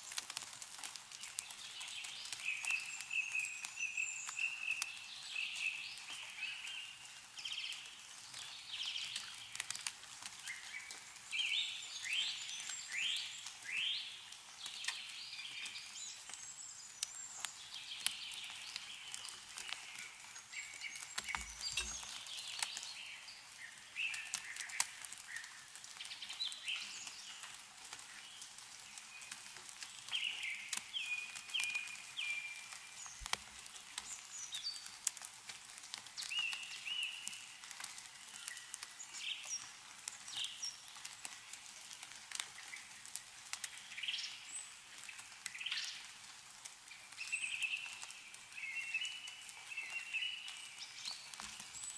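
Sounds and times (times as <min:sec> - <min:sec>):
water dripping from trees: 0:00.0 - 0:51.9
songbirds singing: 0:00.7 - 0:35.3, 0:36.0 - 0:46.2, 0:46.9 - 0:51.9.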